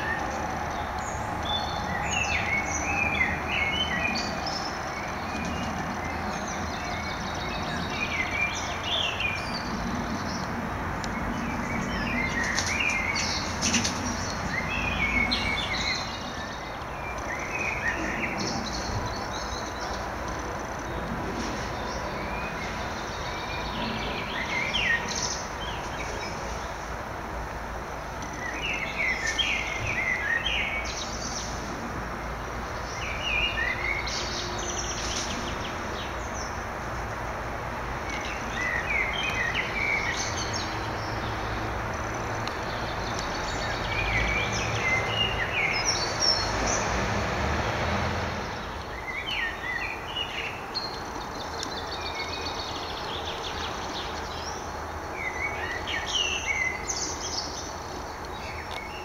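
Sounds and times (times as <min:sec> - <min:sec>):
songbird singing chirpy phrases: 0:00.0 - 0:47.1, 0:47.8 - 0:59.0
steady outdoor hiss: 0:00.0 - 0:59.0.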